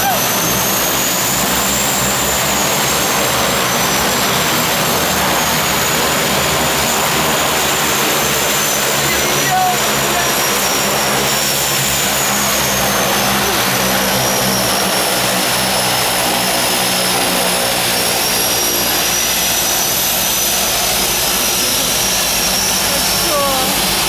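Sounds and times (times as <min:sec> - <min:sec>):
high turbine whine: 0:00.0 - 0:24.0
propeller drone: 0:00.0 - 0:24.0.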